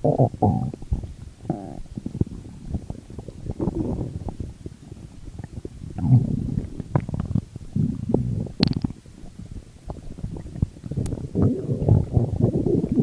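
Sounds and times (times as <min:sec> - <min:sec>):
stomach growling and gurgling: 0:00.0 - 0:13.0.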